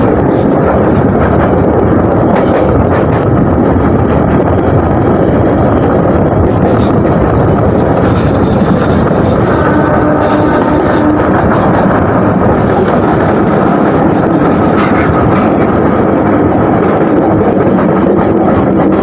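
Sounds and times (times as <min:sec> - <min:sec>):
train carriage running noise: 0:00.0 - 0:19.0.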